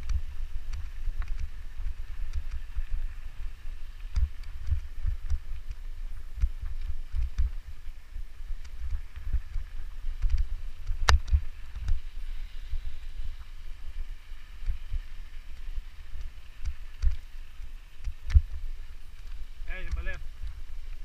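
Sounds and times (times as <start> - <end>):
bike clicks and rattles: 0.0 - 21.0
wind buffeting microphone: 0.0 - 21.0.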